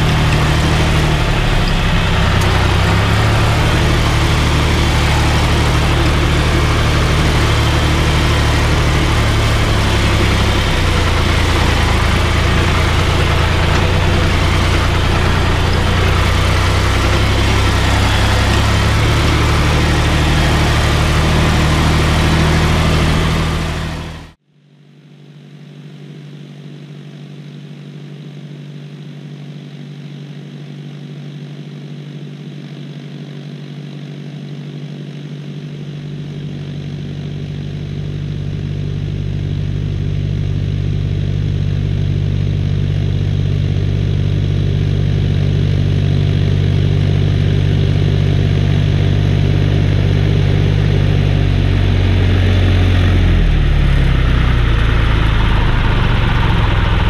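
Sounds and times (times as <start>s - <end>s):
tractor diesel engine running: 0.0s - 24.4s, 30.4s - 57.0s.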